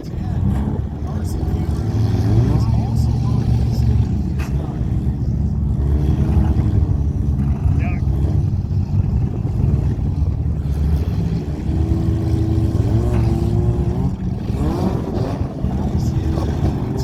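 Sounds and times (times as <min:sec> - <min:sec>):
car engine revving: 0:00.0 - 0:17.0
car engines rumbling: 0:00.0 - 0:17.0.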